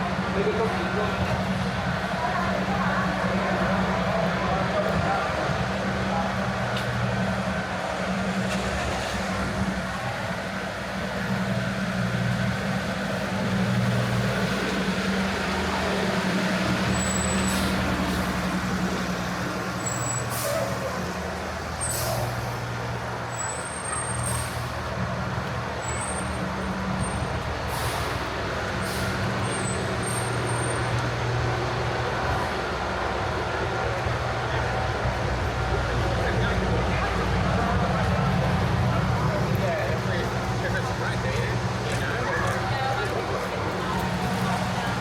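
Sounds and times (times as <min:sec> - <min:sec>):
large vehicle humming: 0:00.0 - 0:45.0.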